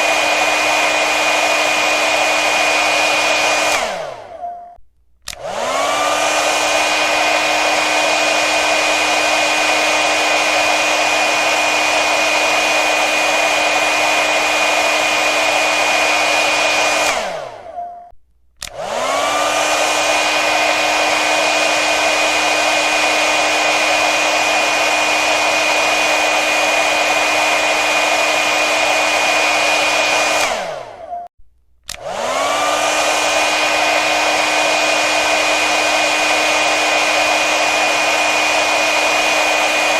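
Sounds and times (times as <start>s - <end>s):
hair dryer blowing: 0.0s - 4.5s, 5.2s - 17.8s, 18.6s - 31.2s, 31.8s - 39.9s.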